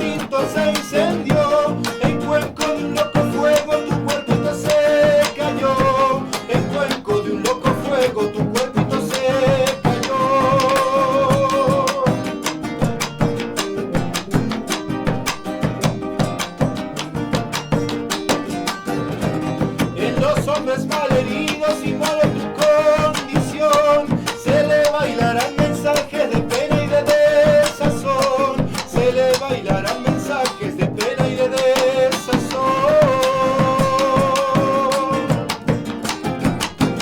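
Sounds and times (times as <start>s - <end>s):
strummed acoustic guitar: 0.0s - 37.0s.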